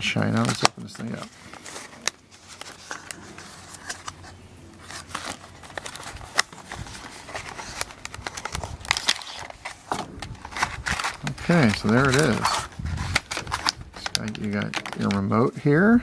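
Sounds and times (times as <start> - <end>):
plastic package rustling: 0.1 - 15.4
cardboard box being opened: 0.3 - 15.2.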